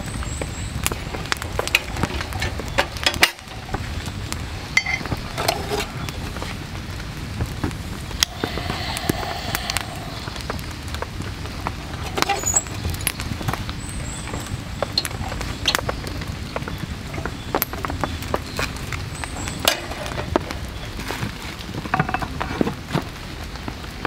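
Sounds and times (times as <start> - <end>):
heavy rain falling: 0.0 - 24.0
raindrops tapping surfaces: 0.0 - 24.0.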